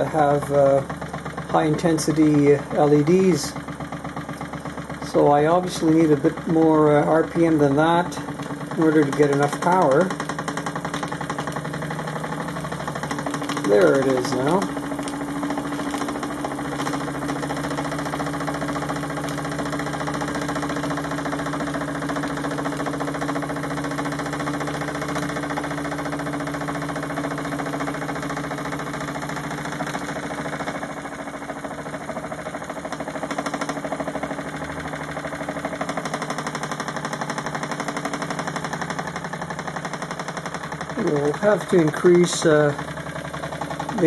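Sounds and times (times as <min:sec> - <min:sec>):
model steam engine chuffing: 0:00.0 - 0:44.0.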